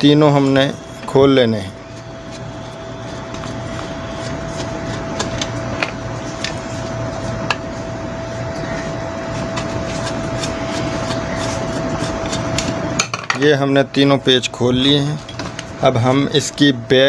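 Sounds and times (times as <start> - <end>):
mechanical hum with whine: 0.0 - 17.0.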